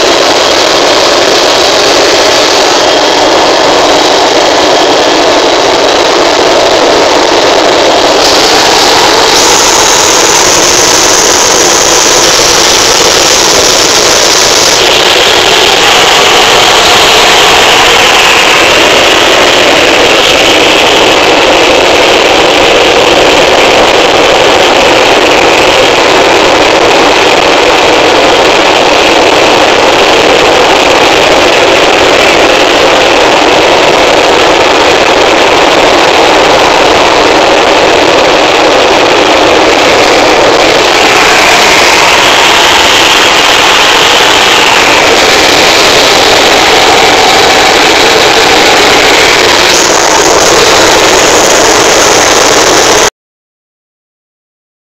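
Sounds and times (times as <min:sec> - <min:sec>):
helicopter engine and rotors droning: 0:00.0 - 0:53.1
high pitched whine: 0:00.0 - 0:53.1.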